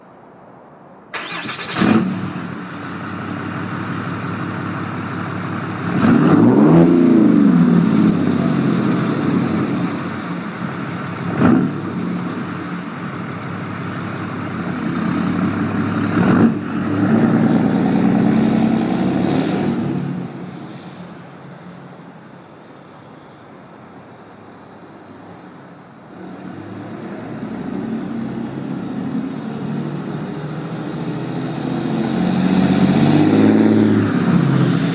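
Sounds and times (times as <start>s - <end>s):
diesel truck engine accelerating: 1.1s - 23.2s, 26.0s - 34.9s.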